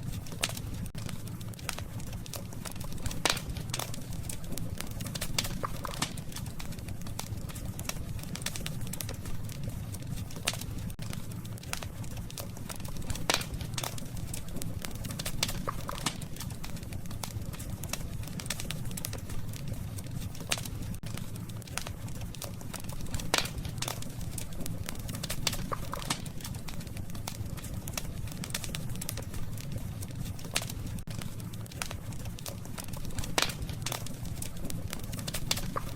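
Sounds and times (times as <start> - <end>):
campfire crackling and popping: 0.0 - 35.9
low fire rumble: 0.0 - 35.9.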